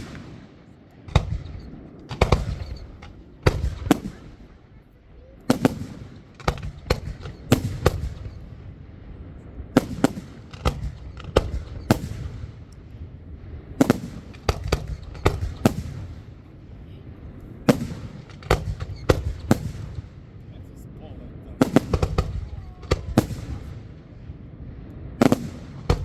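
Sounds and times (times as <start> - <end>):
fireworks bangs with rumble: 0.0 - 26.0.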